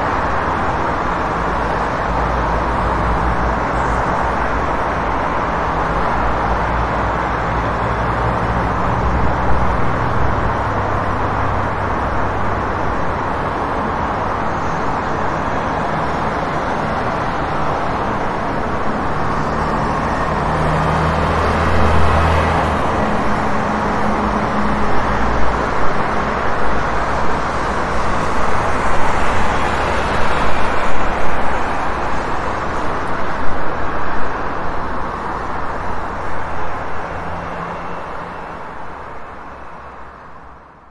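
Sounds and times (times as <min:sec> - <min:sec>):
car and bus engines: 0:00.0 - 0:40.9
heavy vehicles humming: 0:00.0 - 0:40.9.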